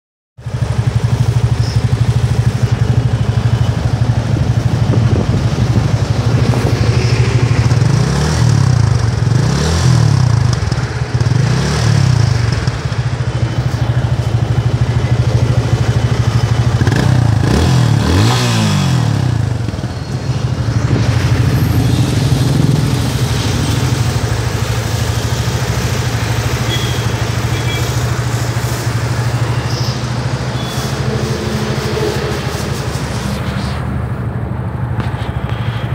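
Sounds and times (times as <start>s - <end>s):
motorcycle engine idling: 0.4s - 35.9s.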